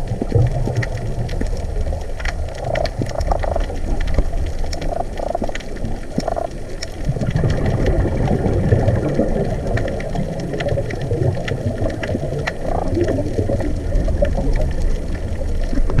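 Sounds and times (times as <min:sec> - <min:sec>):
muffled underwater bubbling rumble: 0:00.0 - 0:16.0
sharp clicks and crackles: 0:00.0 - 0:16.0.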